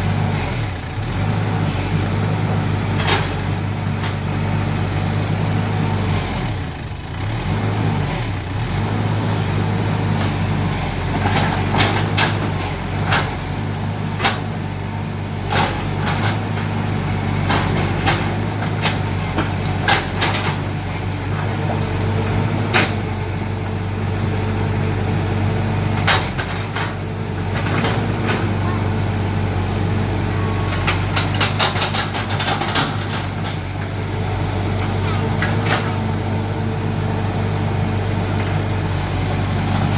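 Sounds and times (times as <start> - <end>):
excavator engine running: 0.0 - 39.9
excavator knocks and clanks digging: 0.1 - 39.9.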